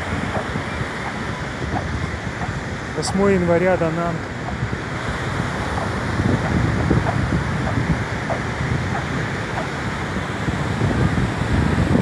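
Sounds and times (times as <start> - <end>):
surf rushing: 0.0 - 12.0
wind buffeting microphone: 0.0 - 12.0.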